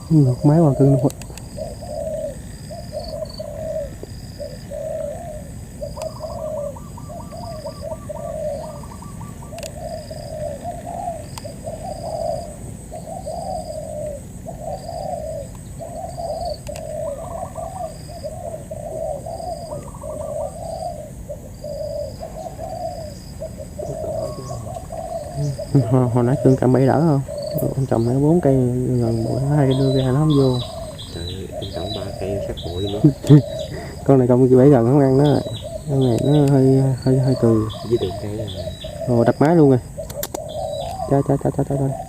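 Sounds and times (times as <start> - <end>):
doves cooing: 0.0 - 42.0.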